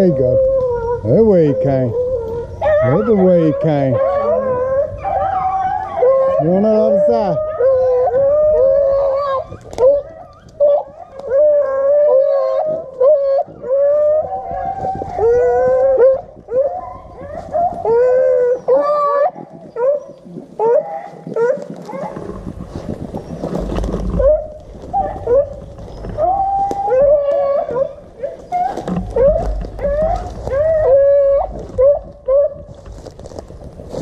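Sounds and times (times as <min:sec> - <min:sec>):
dogs baying and yelping: 0:00.0 - 0:34.0.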